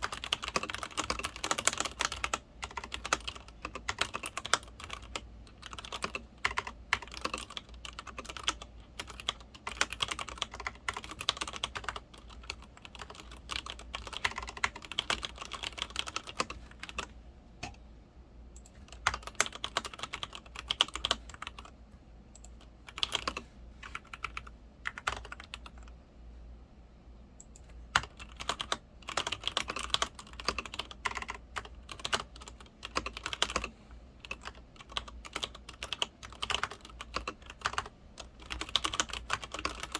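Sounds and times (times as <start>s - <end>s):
mechanical keyboard typing: 0.0s - 17.8s, 18.6s - 21.7s, 22.3s - 26.0s, 27.4s - 39.9s.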